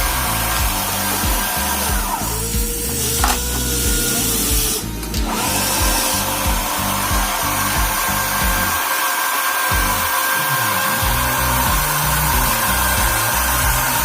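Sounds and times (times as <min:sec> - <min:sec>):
background music with bass: 0:00.0 - 0:08.8, 0:09.7 - 0:14.0
small electric motor whining: 0:00.0 - 0:14.0.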